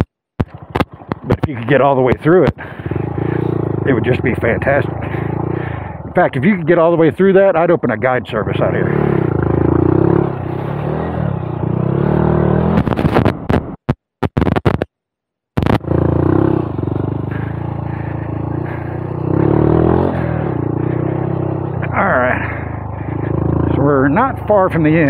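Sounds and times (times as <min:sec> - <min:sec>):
motorcycle engine running: 0:00.0 - 0:13.8, 0:15.6 - 0:25.0.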